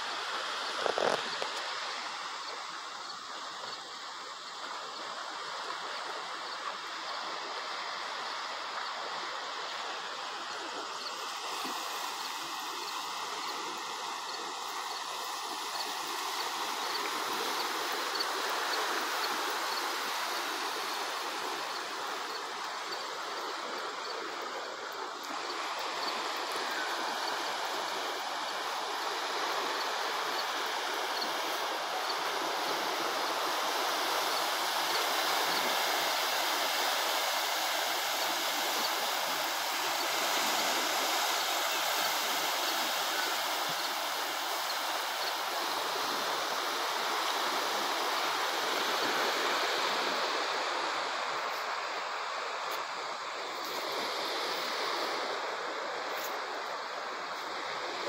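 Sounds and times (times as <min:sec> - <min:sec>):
small waves on rocky shore: 0:00.0 - 0:58.0.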